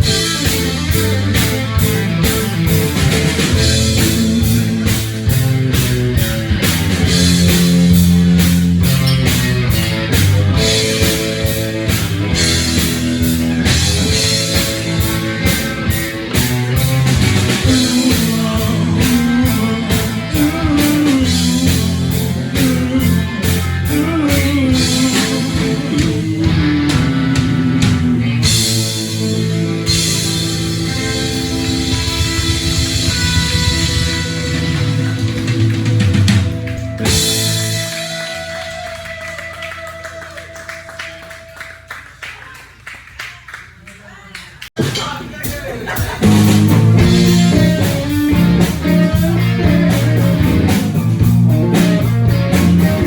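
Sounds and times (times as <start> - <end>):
drum kit: 0.0 - 40.9, 44.8 - 53.0
bass guitar: 0.0 - 41.3, 44.8 - 53.0
electric guitar: 0.0 - 41.3, 46.0 - 53.0.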